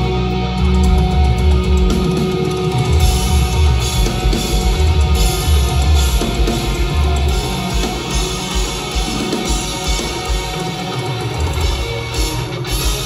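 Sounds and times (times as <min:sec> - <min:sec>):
bass guitar: 0:00.0 - 0:13.0
drum kit: 0:00.0 - 0:13.0
electric guitars: 0:00.0 - 0:13.0.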